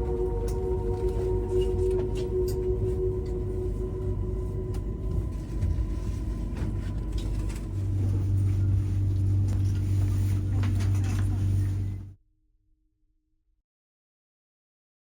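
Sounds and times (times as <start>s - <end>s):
deep hum: 0.0s - 12.2s
passenger train rumble: 0.0s - 12.2s.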